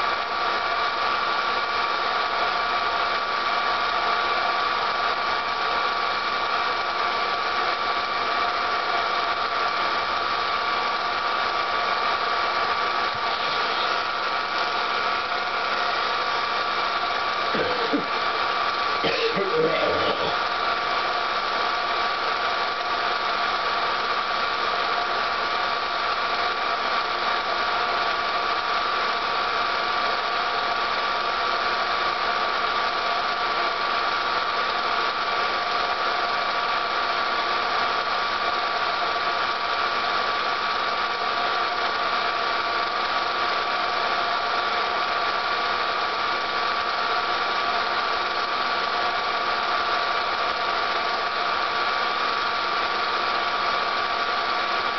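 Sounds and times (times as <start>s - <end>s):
film projector motor whirring: 0.0s - 54.9s.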